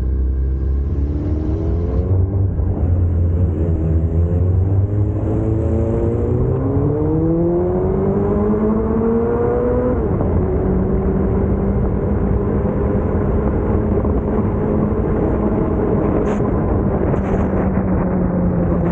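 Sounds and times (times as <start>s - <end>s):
car engine revving: 0.0s - 18.9s
road noise: 0.0s - 18.9s.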